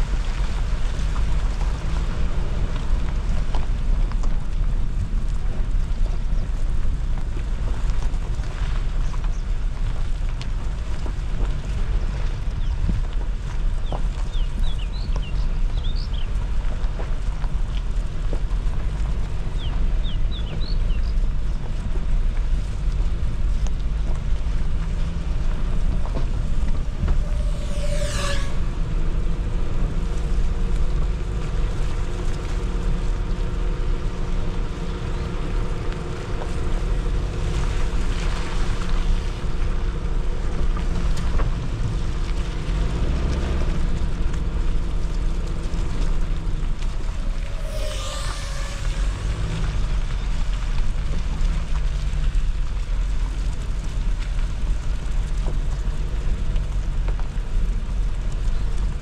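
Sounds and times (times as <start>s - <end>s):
engine low rumble: 0.0s - 59.0s
wind noise on microphone: 0.0s - 59.0s.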